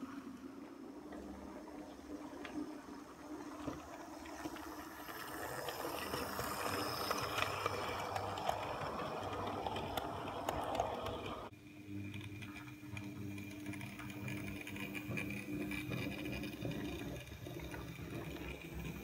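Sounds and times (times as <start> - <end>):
model train rumbling on track: 1.2 - 11.5, 12.2 - 19.0.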